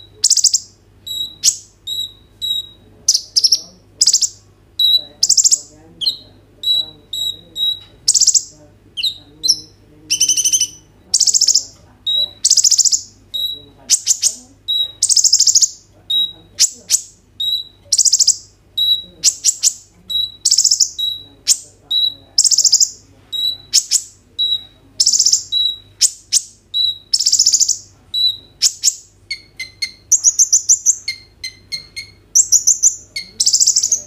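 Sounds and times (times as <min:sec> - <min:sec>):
sunbird singing: 0:00.0 - 0:34.0.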